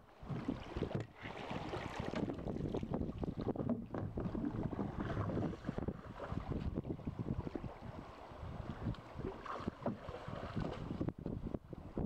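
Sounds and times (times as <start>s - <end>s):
water lapping on boat hull: 0.0s - 12.0s
wind gusting on microphone: 0.3s - 12.0s.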